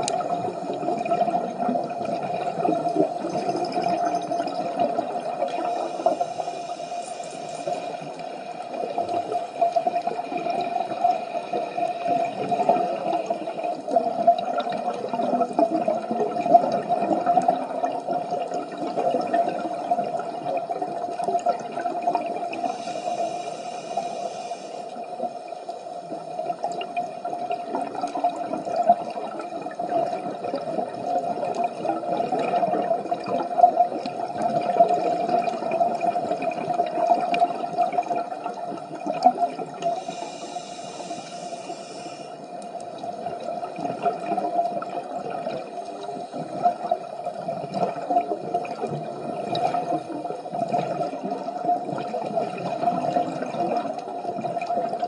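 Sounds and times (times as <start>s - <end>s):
underwater bubbles rushing and gurgling: 0.0s - 55.0s.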